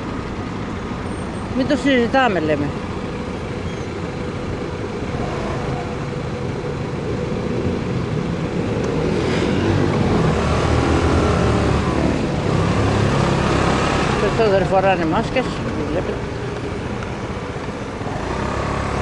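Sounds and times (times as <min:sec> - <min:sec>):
city traffic: 0:00.0 - 0:19.0.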